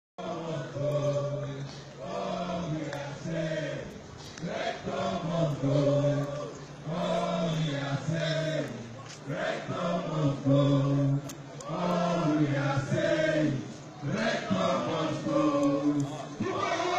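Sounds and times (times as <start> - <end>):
crowd singing a chant: 0.2 - 16.9.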